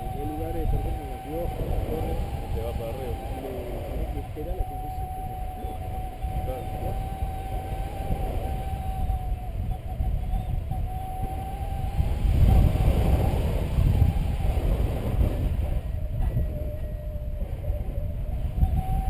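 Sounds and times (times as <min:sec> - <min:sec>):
variometer electronic tone: 0:00.0 - 0:19.0
wind buffeting the microphone: 0:00.0 - 0:19.0.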